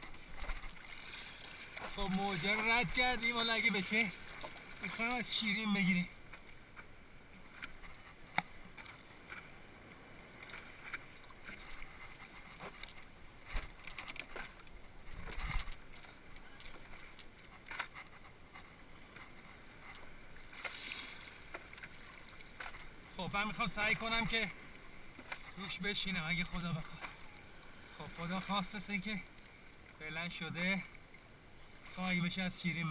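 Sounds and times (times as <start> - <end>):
water splashing against paddleboard: 0.0 - 30.2.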